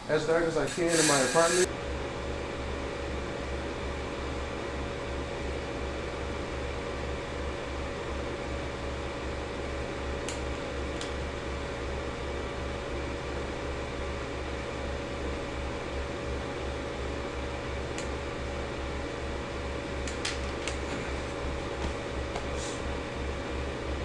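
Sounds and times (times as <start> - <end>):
projector cooling fan whirring: 0.0 - 24.0.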